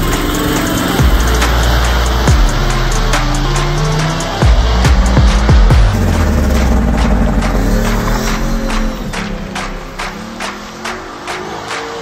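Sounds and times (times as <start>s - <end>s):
deep sliding bass notes: 0.0s - 11.8s
hip-hop music: 0.0s - 12.0s.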